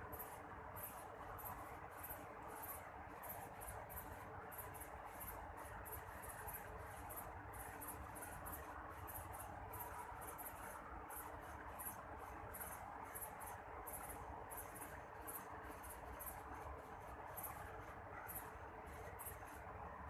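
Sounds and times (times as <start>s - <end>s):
insects chirping: 0.1s - 19.5s.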